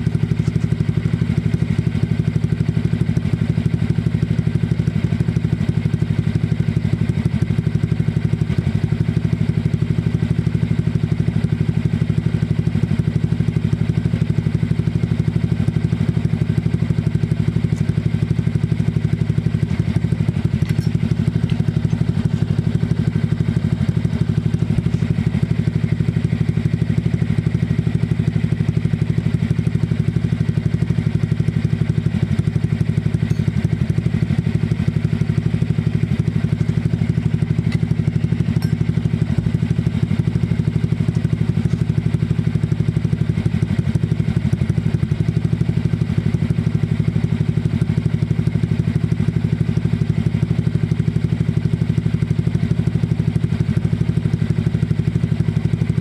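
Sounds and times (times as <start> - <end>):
scooter engine idling: 0.0 - 56.0.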